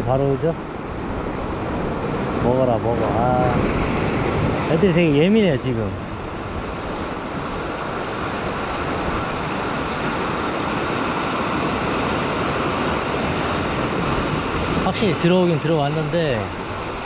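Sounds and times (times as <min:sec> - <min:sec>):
sea surf washing over rocks: 0:00.0 - 0:17.0.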